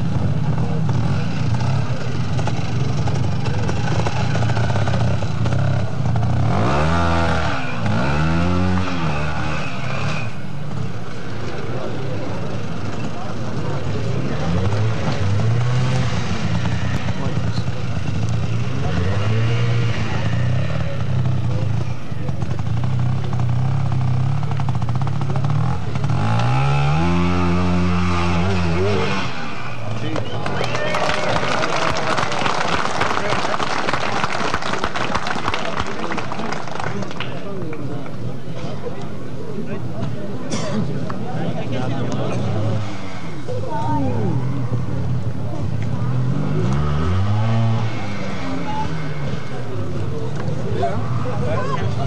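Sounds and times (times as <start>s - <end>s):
motorcycle engine revving: 0.0s - 37.6s, 38.2s - 52.0s.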